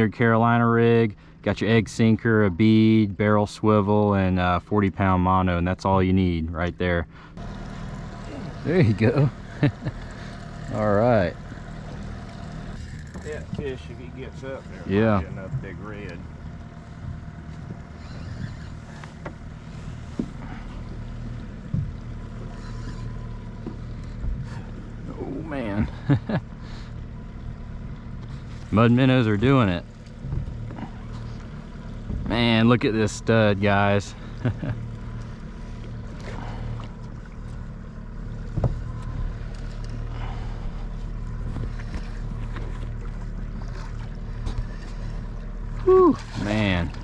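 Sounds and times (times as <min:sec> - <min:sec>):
boat low rumble: 0:00.0 - 0:47.0.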